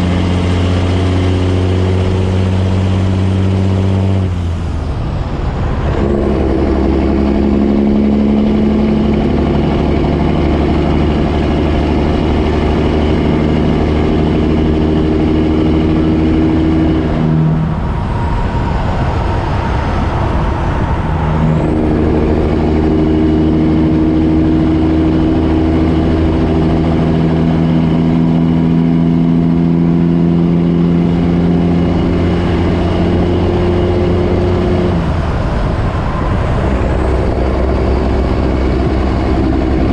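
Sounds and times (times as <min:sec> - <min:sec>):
truck diesel engine accelerating: 0:00.0 - 0:39.9.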